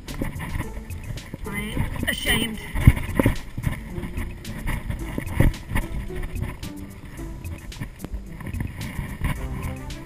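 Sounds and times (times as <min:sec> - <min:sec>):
mountain bike rattling on rocky trail: 0:00.0 - 0:09.8
background music: 0:00.0 - 0:10.0
wheels knocking on rocks: 0:00.0 - 0:10.0.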